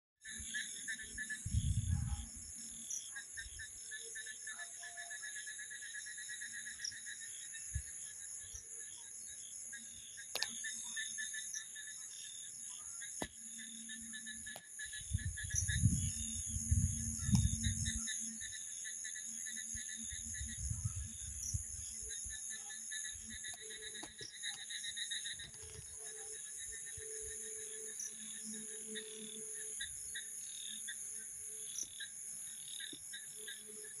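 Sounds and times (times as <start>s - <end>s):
crickets and insects trilling: 0.2s - 34.0s.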